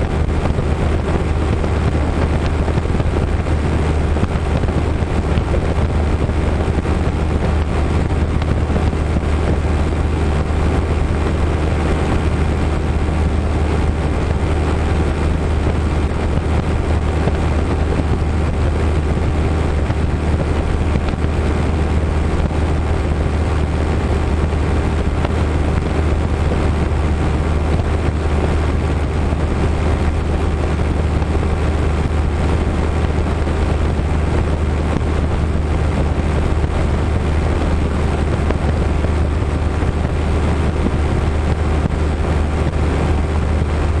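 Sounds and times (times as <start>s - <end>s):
light aircraft engine droning: 0.0s - 44.0s
wind on microphone: 0.0s - 44.0s.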